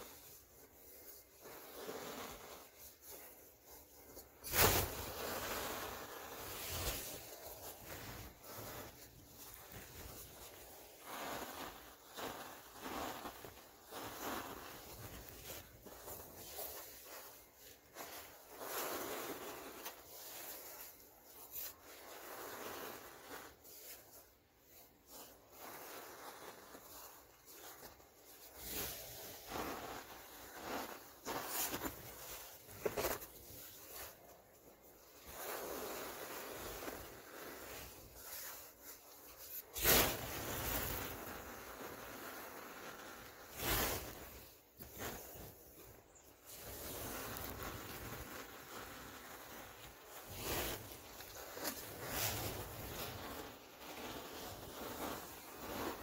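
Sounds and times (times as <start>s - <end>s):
powder rustling in plastic tub: 0.0s - 56.0s.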